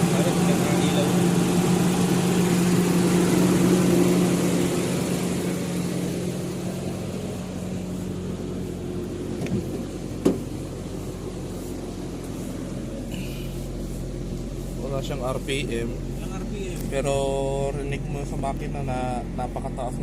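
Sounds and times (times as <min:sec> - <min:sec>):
engine idling high: 0:00.0 - 0:20.0.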